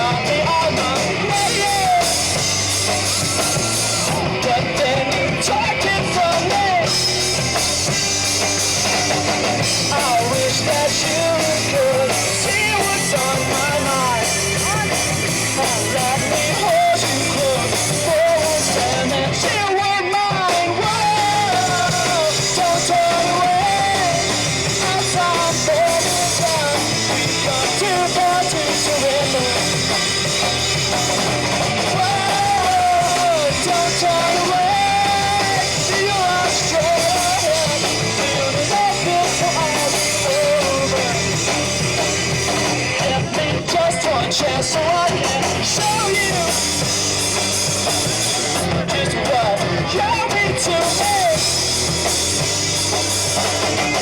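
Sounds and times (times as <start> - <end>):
person singing: 0.0 - 7.5, 9.8 - 46.9, 48.5 - 51.6
drums: 0.0 - 54.0
electric guitars: 0.0 - 54.0.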